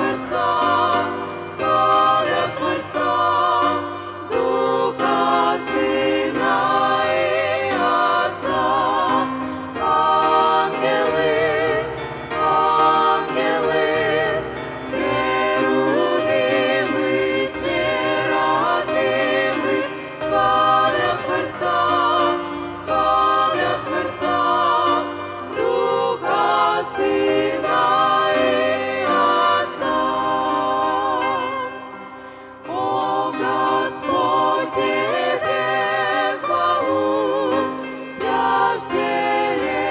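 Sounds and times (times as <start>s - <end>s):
choir singing a hymn in harmony: 0.0s - 39.9s.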